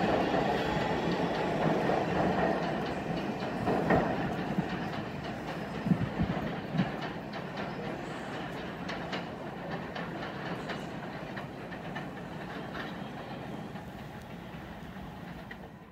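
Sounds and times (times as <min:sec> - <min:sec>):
subway train running: 0:00.0 - 0:15.9.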